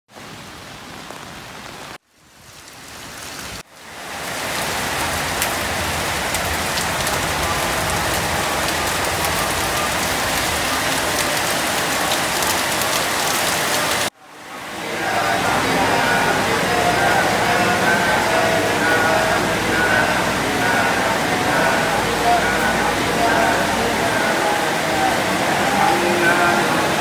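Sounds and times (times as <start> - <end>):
heavy rain on wet pavement: 0.1 - 27.0.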